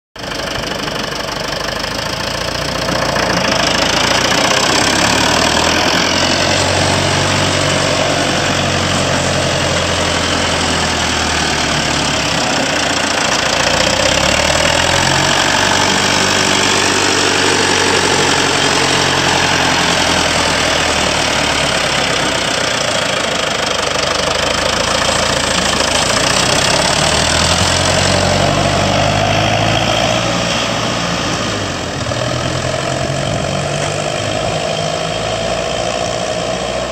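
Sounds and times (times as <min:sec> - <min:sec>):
tractor diesel engine driving by: 0:00.2 - 0:36.9.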